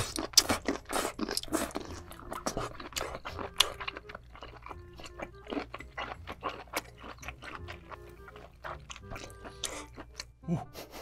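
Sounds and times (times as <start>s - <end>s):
chewing and biting: 0.0s - 10.4s
soft background music: 0.0s - 11.0s.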